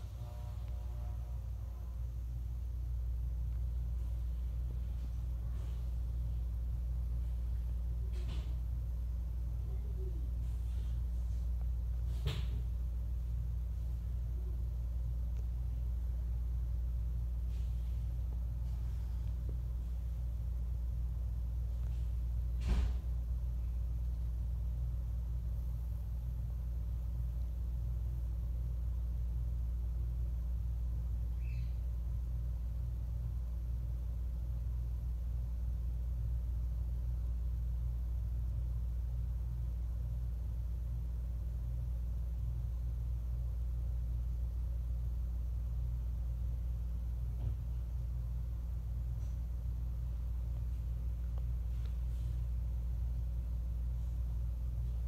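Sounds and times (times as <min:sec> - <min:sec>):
ceiling fan humming: 0:00.0 - 0:55.0.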